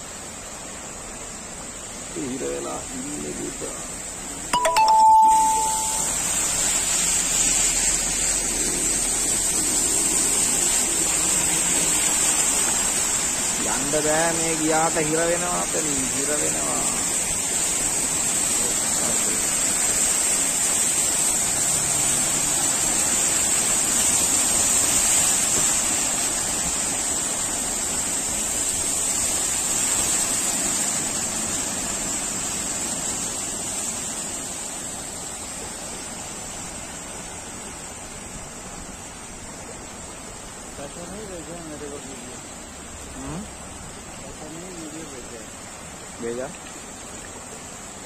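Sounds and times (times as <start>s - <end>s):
vehicles splashing through floodwater: 0.1s - 48.0s.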